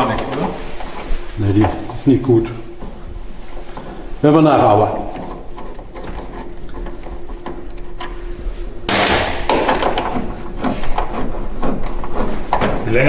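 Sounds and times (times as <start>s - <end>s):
workshop parts knocking and clicking: 1.6s - 8.2s, 8.9s - 13.0s.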